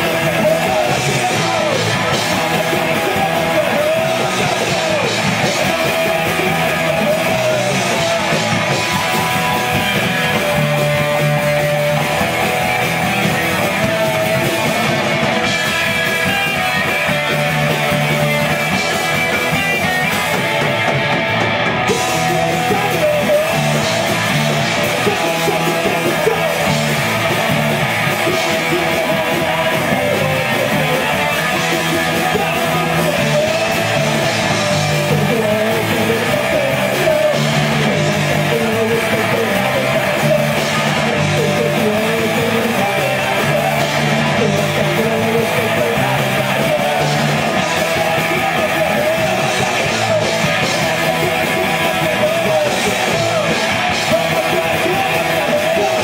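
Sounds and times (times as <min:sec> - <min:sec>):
bass guitar: 0:00.0 - 0:56.0
drums: 0:00.0 - 0:56.0
electric guitars: 0:00.0 - 0:56.0
person singing: 0:00.0 - 0:56.0.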